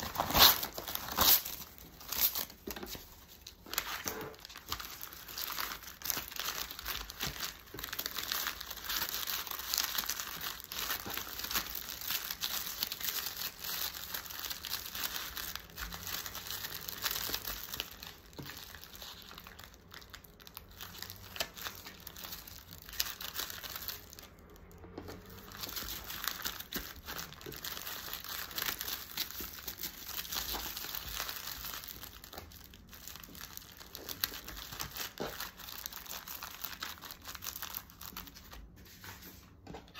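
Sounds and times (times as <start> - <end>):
wrapping paper crinkling: 0.0 - 39.9.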